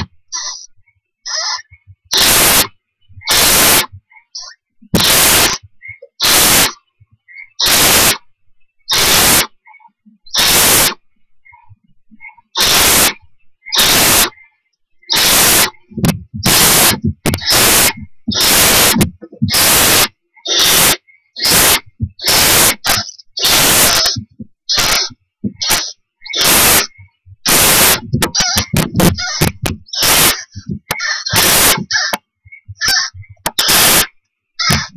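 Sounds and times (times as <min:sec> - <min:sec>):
owlets hissing begging calls: 0:00.0 - 0:00.7, 0:01.3 - 0:08.3, 0:08.9 - 0:09.6, 0:10.3 - 0:34.9.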